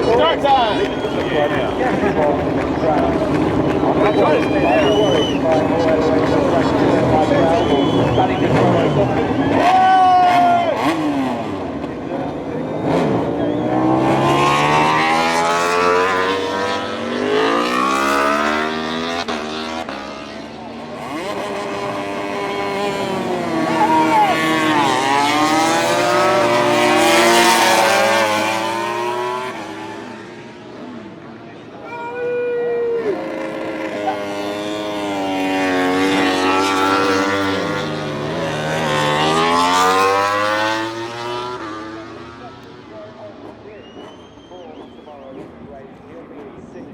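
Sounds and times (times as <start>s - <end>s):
motorcycle engine accelerating: 0.0s - 31.7s, 32.9s - 44.1s.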